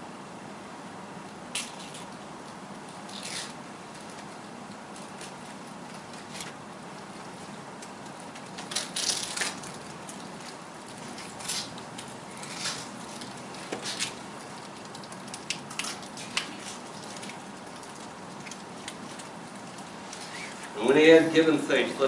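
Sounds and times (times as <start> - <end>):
steady room hiss: 0.0 - 22.0
plastic packaging crinkling: 2.9 - 20.8.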